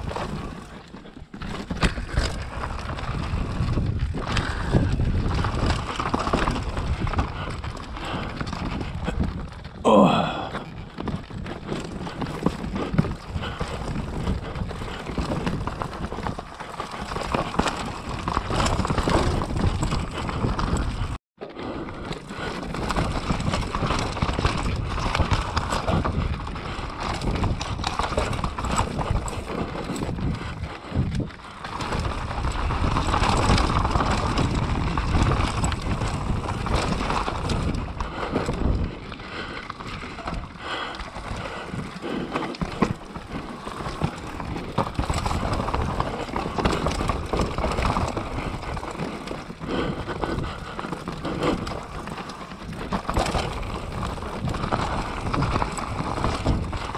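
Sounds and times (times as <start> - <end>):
bike rattling over bumps: 0.0 - 56.9
tyres crunching over dirt: 0.0 - 56.9.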